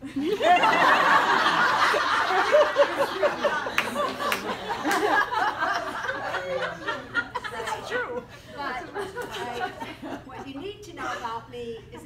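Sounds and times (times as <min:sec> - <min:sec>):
audience laughing: 0:00.0 - 0:10.8.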